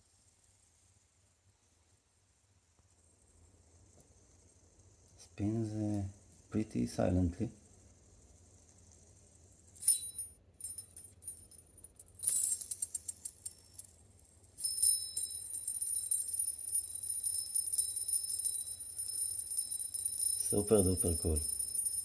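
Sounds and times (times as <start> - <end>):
fidget spinner jingling ring: 3.0 - 22.0.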